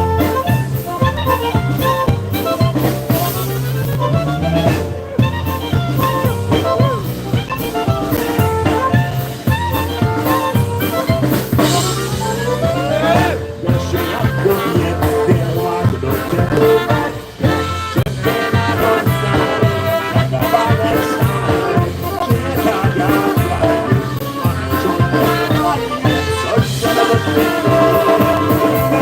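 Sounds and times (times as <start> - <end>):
drum kit beat: 0.0 - 29.0
polka band playing: 0.0 - 29.0.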